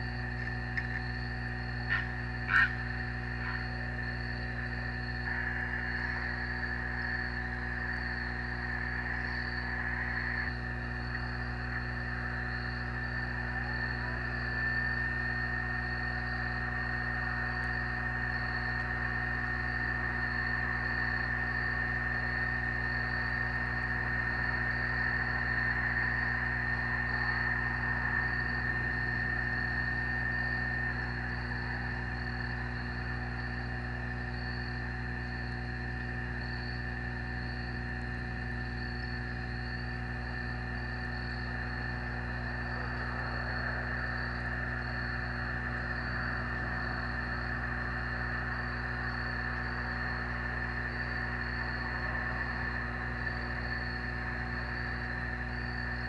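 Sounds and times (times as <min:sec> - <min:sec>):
crickets chirping: 0:00.0 - 0:56.0
electrical hum: 0:00.0 - 0:56.0
high whine: 0:00.0 - 0:56.0.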